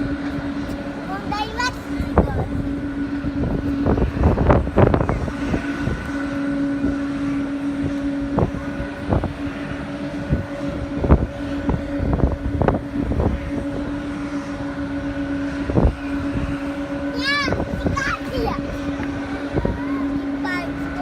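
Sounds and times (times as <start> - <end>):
machine hum with low drone: 0.0 - 21.0.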